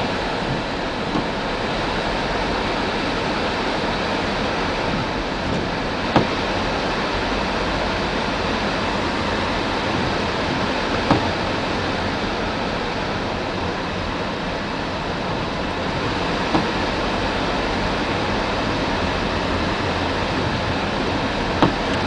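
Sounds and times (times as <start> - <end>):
vehicle rushing along snowy road: 0.0 - 22.0.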